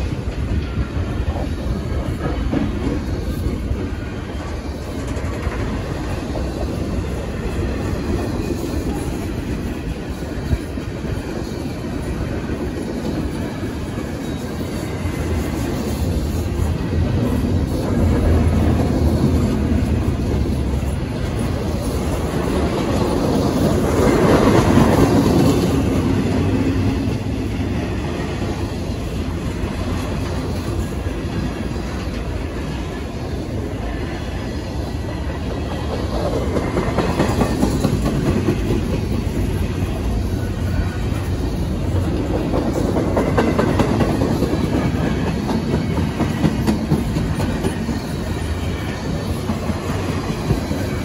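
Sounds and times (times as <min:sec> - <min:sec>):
freight train rolling past: 0:00.0 - 0:51.0.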